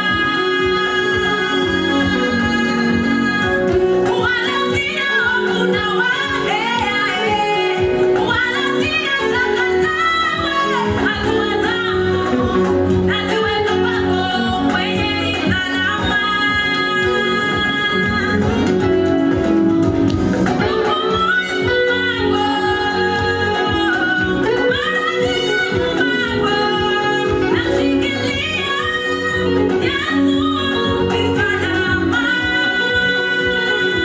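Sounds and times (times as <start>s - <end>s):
instrumental accompaniment with beat: 0.0s - 34.0s.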